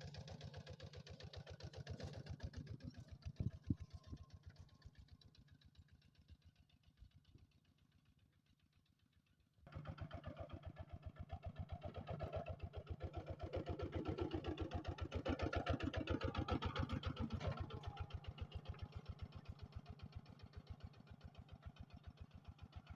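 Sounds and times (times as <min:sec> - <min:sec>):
diesel engine chugging: 0:00.0 - 0:22.9.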